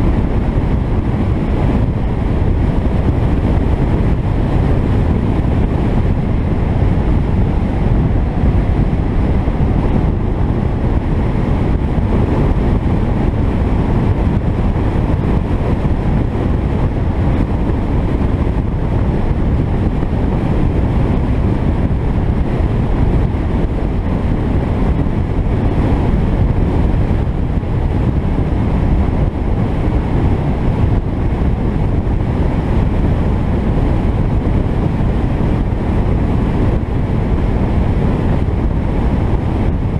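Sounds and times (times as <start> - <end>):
car road and engine noise: 0.0 - 39.9
wind buffeting microphone: 0.0 - 39.9.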